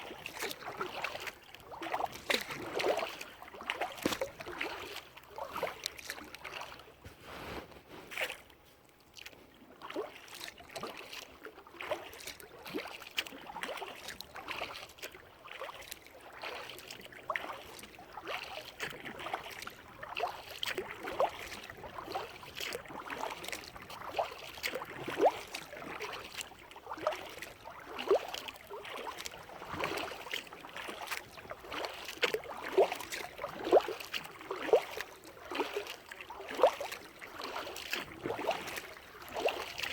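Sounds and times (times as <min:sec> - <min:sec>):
kayak paddle strokes in water: 0:00.0 - 0:39.9.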